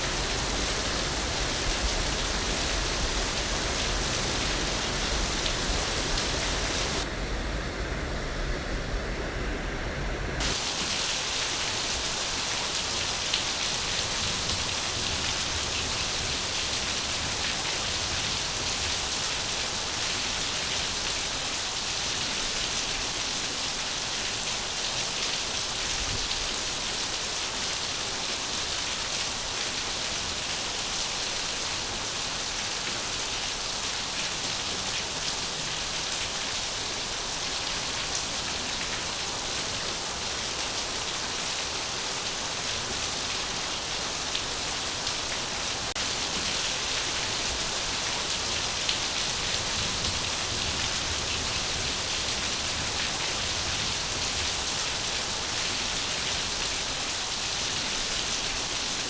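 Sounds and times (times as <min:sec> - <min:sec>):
rain falling: 0:00.0 - 0:59.0
rushing water: 0:00.0 - 0:59.0.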